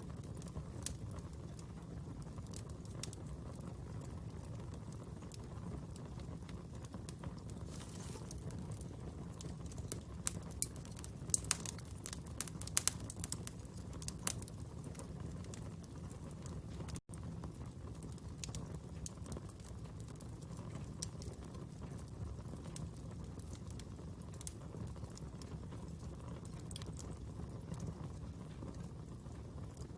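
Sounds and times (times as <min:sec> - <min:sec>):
sharp fire pops: 0:00.0 - 0:29.9
wood fire crackling: 0:00.0 - 0:29.9.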